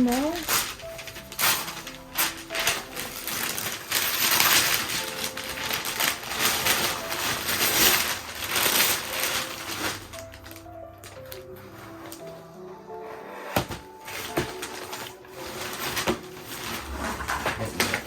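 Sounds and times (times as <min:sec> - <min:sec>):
wrapping paper tearing and crinkling: 0:00.0 - 0:12.4, 0:13.6 - 0:18.0.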